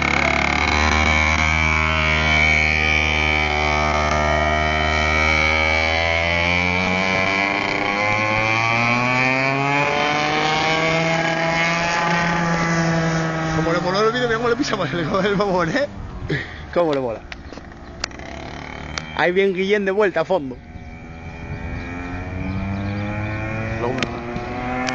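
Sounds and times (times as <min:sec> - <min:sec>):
racing kart engine: 0:00.0 - 0:24.9.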